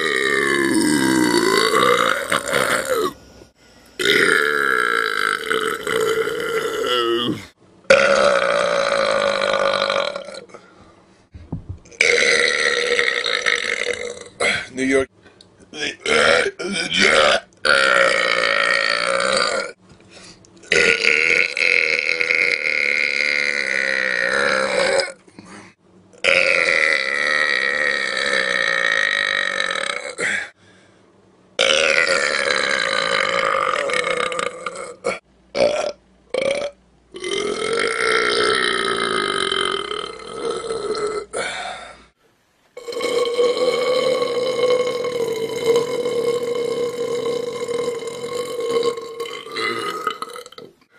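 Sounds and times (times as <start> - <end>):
man belching loudly: 0.0 - 3.2, 4.0 - 10.5, 11.9 - 14.7, 16.0 - 19.8, 20.7 - 25.2, 26.2 - 30.3, 31.6 - 41.5, 42.8 - 50.8.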